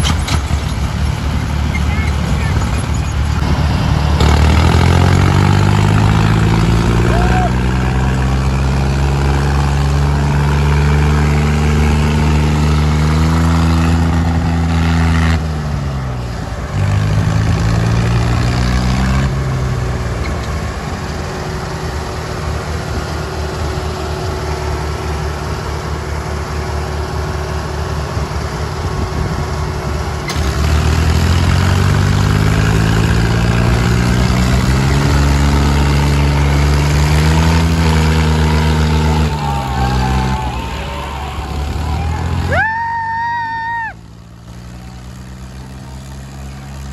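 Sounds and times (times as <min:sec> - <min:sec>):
tractor engines under load: 0:00.0 - 0:46.9.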